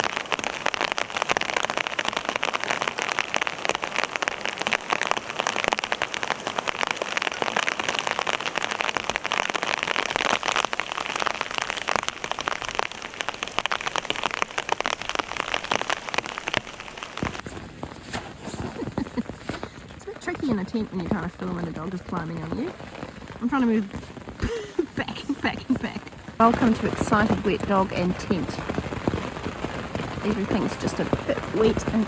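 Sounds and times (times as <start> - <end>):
heavy rain on tent fabric: 0.0 - 32.0.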